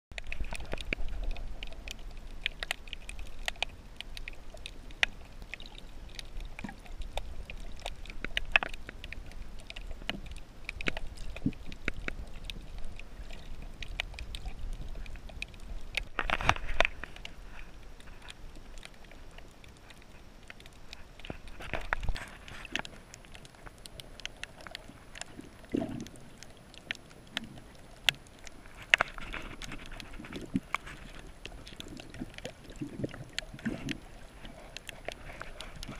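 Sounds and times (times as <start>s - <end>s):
low underwater rumble: 0.1s - 35.9s
underwater clicks and crackles: 0.1s - 35.9s.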